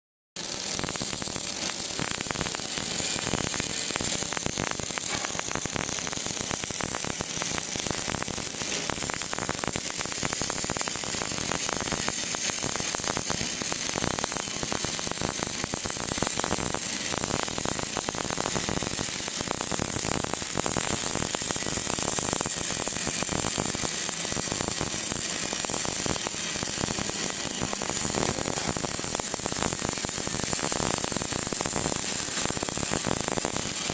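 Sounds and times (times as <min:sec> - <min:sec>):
high welding hiss: 0:00.4 - 0:33.9
welding arc crackling: 0:00.4 - 0:33.9.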